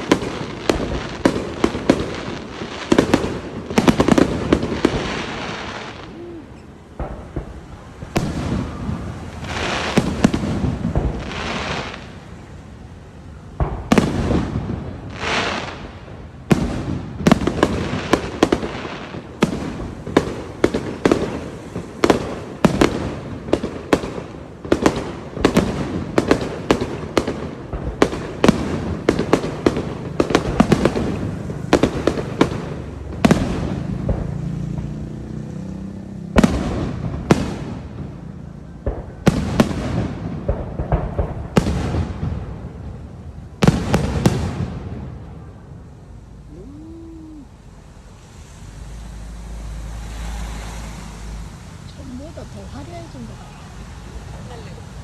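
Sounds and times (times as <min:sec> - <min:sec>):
fireworks bangs: 0:00.0 - 0:51.3
fireworks crackling: 0:00.0 - 0:55.0.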